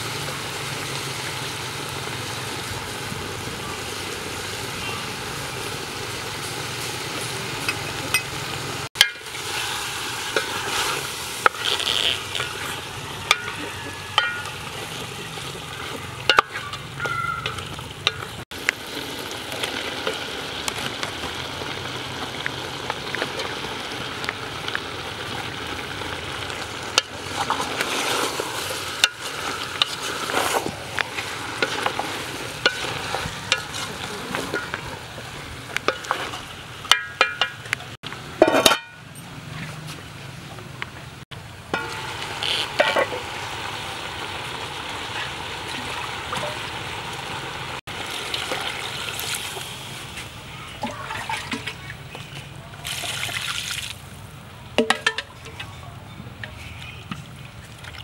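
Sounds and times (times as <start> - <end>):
food sizzling in a pot: 0.0 - 39.2, 41.5 - 50.6.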